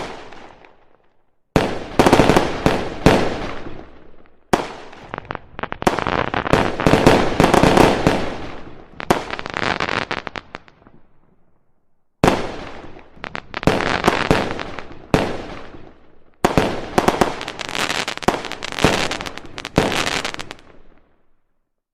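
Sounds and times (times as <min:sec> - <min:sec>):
fireworks crackling bangs: 0:00.0 - 0:00.7, 0:01.6 - 0:11.0, 0:12.2 - 0:20.8.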